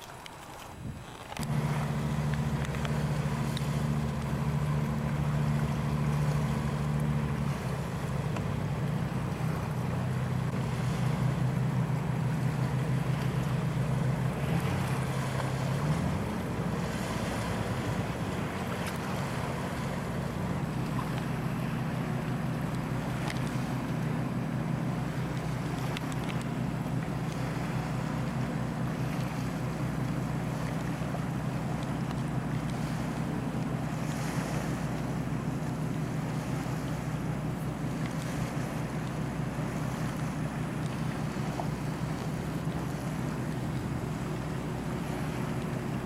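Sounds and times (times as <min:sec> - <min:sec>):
hiss of wind or water: 0:00.0 - 0:46.0
engine running: 0:01.1 - 0:46.0.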